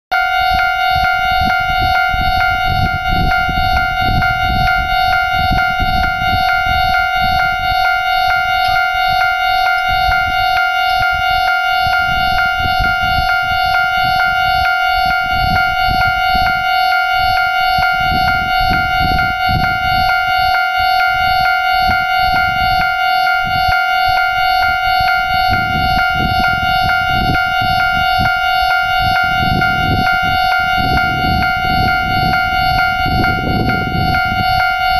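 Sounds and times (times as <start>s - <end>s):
level crossing alarm ringing: 0.1s - 34.9s
wind rumble on microphone: 0.1s - 34.9s.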